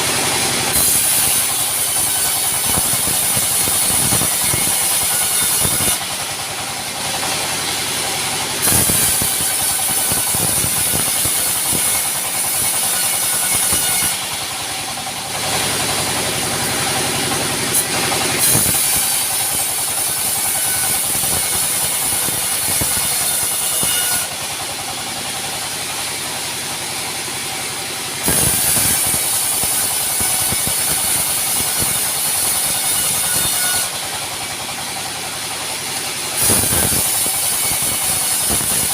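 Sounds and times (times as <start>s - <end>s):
saw cutting timber hiss: 0.0s - 38.9s
sawmill engine running: 0.0s - 38.9s.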